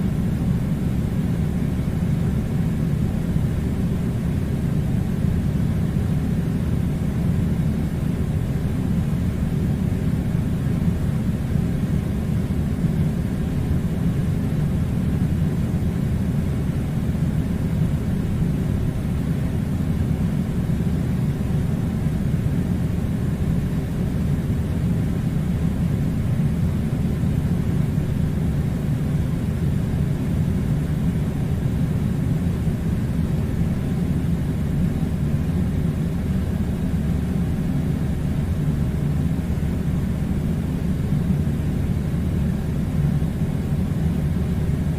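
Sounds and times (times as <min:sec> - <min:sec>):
air conditioner humming: 0:00.0 - 0:44.9.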